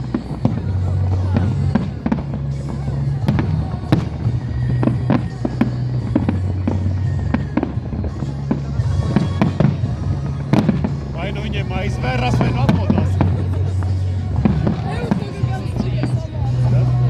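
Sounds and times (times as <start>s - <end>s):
fireworks bangs and crackles: 0.0s - 17.0s
music with low bass: 0.0s - 17.0s.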